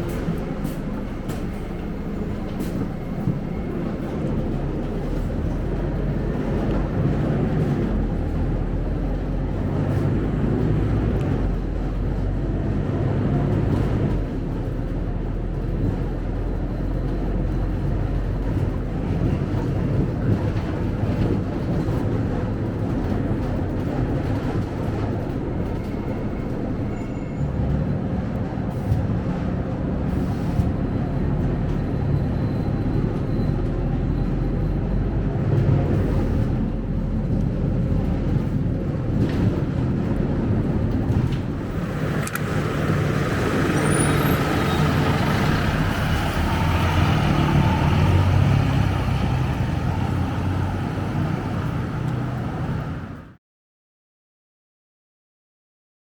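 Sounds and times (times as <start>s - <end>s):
bus diesel engine rumbling: 0.0s - 53.4s.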